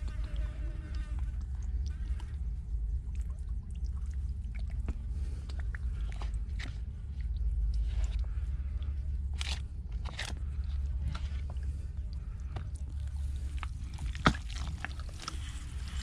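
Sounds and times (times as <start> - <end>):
steady low rumble: 0.0 - 16.0
wet clicks and squelches: 3.2 - 16.0.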